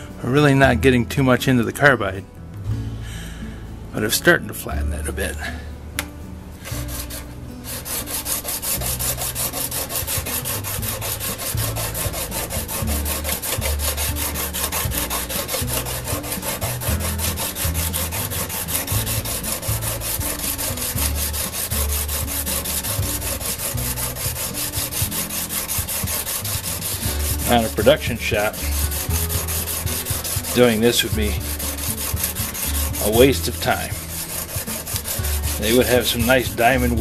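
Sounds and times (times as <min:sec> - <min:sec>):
tool rubbing on sharpening plate: 0:06.7 - 0:37.0.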